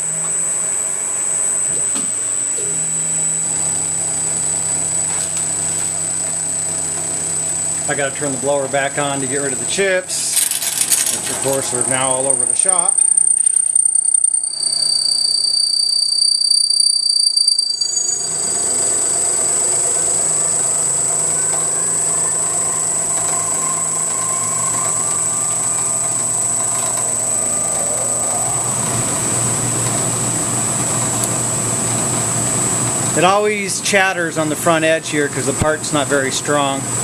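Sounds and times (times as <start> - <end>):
low hum: 0.0 - 34.6
milling spindle whine: 0.0 - 37.0.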